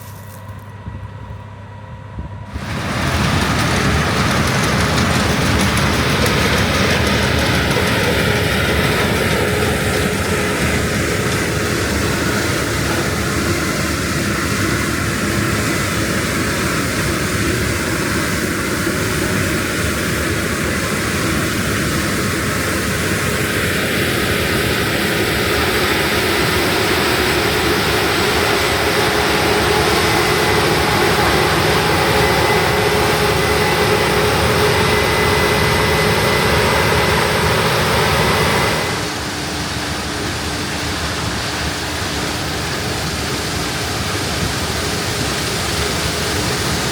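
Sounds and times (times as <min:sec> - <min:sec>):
combine harvester running with whine: 0:00.0 - 0:46.9
even rushing sound: 0:02.5 - 0:42.5.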